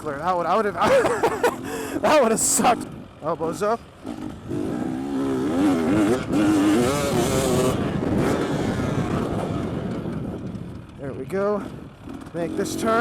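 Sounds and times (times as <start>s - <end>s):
motocross bike engine revving: 0.6s - 13.0s.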